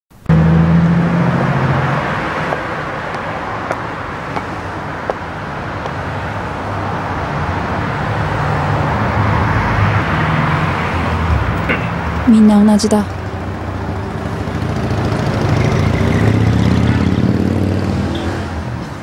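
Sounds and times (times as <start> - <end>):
road noise: 0.1 - 19.0
car engines passing: 0.2 - 19.0.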